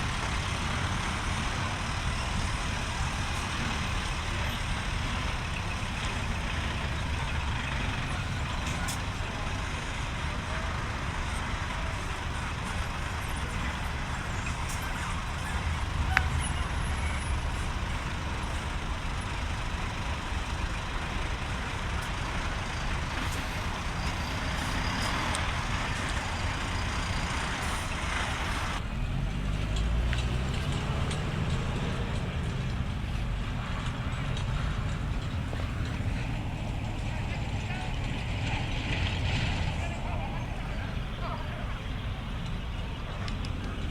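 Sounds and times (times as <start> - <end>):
diesel truck engines rumbling: 0.0 - 43.9
outdoor noise: 0.0 - 43.9.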